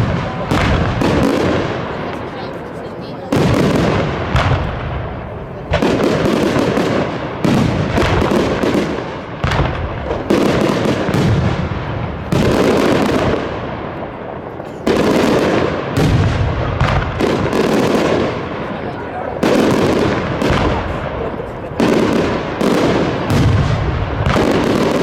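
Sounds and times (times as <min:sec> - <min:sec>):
rumbling echo and crackle: 0:00.0 - 0:02.5, 0:03.2 - 0:25.0
fireworks bursting with loud bangs: 0:00.0 - 0:25.0.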